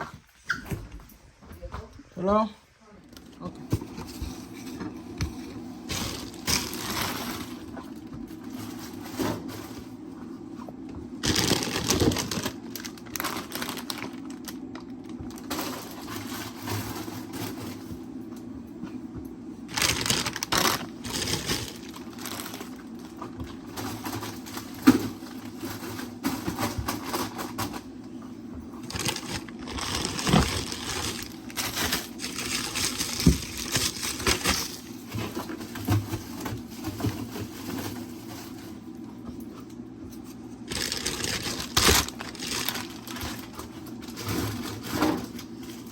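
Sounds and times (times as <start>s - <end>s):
steady low hum: 1.0s - 45.9s
objects rustling and clattering: 3.0s - 45.9s.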